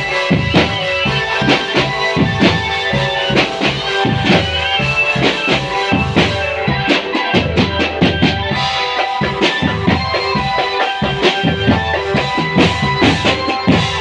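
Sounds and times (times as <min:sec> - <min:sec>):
marching drum band playing: 0:00.0 - 0:14.0.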